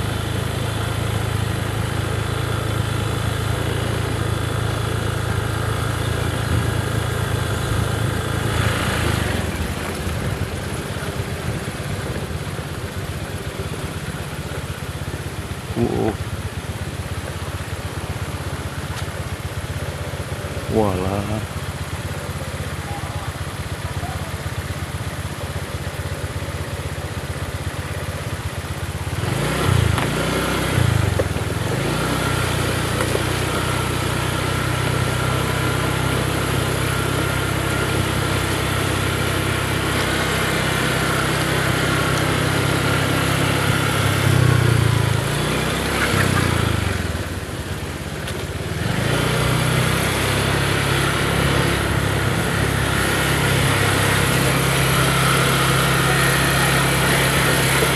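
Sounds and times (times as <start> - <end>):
small motorcycle engine revving: 0.0 - 57.9.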